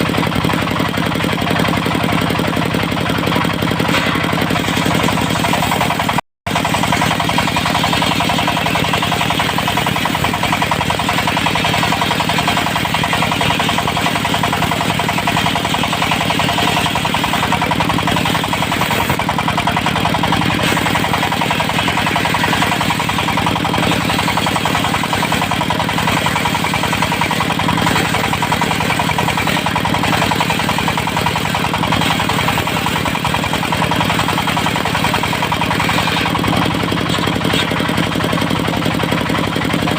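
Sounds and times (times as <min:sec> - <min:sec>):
diesel engine running: 0:00.0 - 0:39.9
sawmill blade cutting logs: 0:00.0 - 0:39.9.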